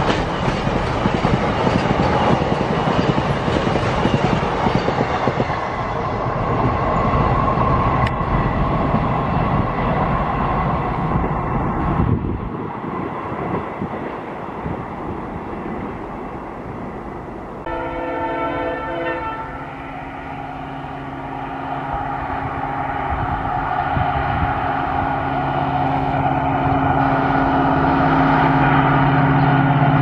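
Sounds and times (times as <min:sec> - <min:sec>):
freight train wagons rumbling: 0:00.0 - 0:30.0.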